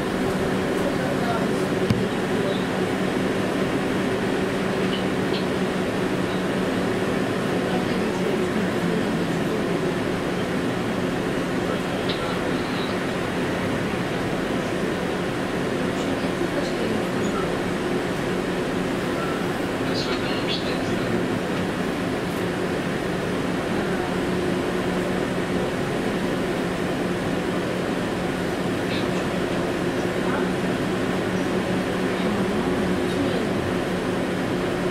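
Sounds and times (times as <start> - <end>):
constant low hum: 0.0 - 34.9
tram rolling on track: 0.0 - 34.9.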